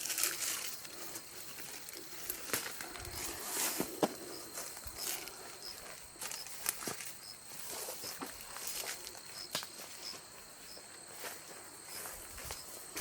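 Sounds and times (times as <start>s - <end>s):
faint insect chirp: 0.0s - 13.0s
footsteps: 0.0s - 13.0s
ground litter crackling underfoot: 0.0s - 13.0s.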